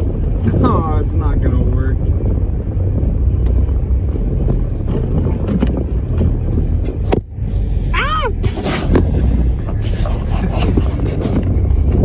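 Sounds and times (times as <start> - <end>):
vehicle engine rumbling under load: 0.0 - 12.0
wind on microphone: 0.0 - 12.0.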